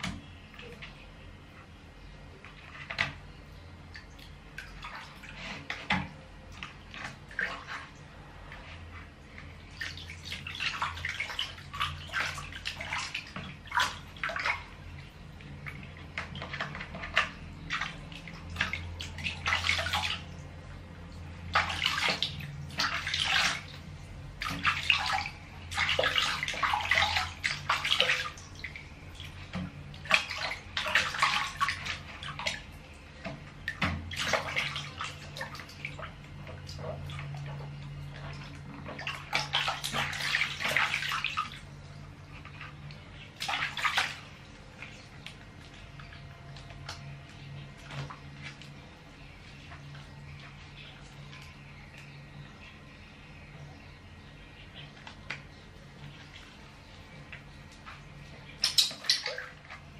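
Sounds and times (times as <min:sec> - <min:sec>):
water splashing in plastic basin: 0:00.0 - 0:01.3, 0:02.3 - 0:52.2, 0:54.8 - 0:59.9.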